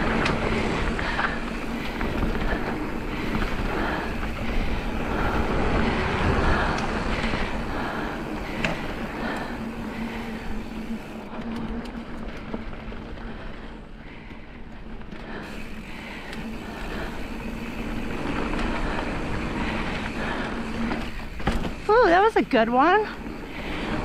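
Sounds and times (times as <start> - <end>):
bike tyres on dirt: 0.0 - 24.0.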